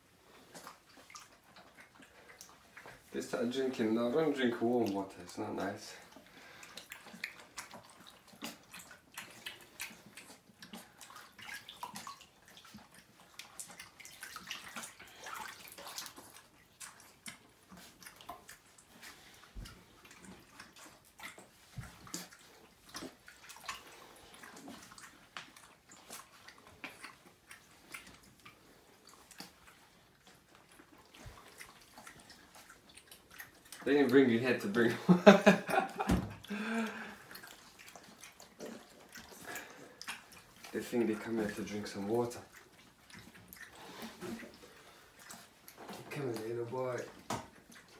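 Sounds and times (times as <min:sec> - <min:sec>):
small water splashes and drips: 0:00.0 - 0:47.9.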